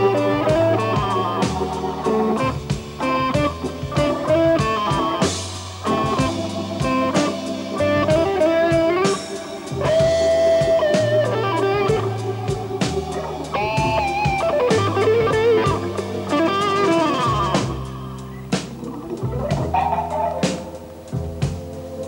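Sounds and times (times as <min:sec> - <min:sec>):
electric guitar solo: 0:00.0 - 0:21.1
drum kit with cymbals: 0:00.0 - 0:22.0
organ: 0:00.0 - 0:22.0.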